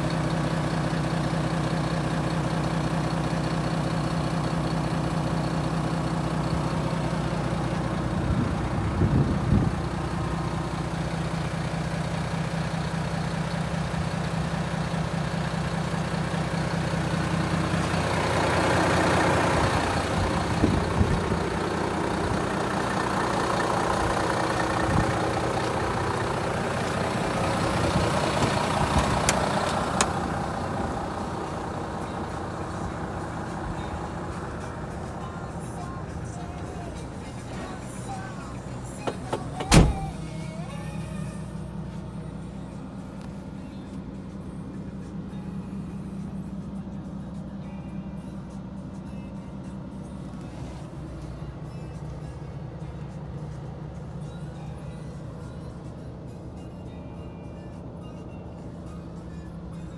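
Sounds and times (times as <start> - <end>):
diesel truck idling: 0.0 - 59.9.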